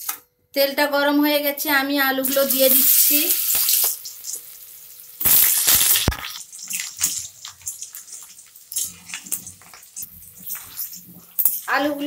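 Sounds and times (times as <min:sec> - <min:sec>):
potatoes sizzling in hot oil: 0:02.2 - 0:12.0.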